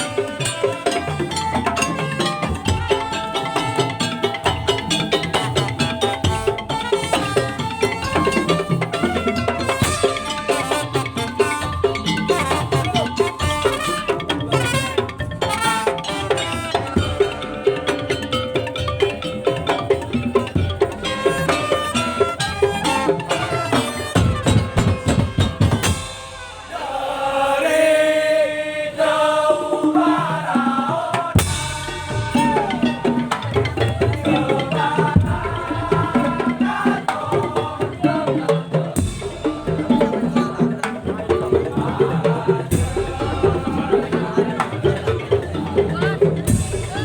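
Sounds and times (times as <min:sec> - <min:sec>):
drums and slit drums beating: 0:00.0 - 0:47.0.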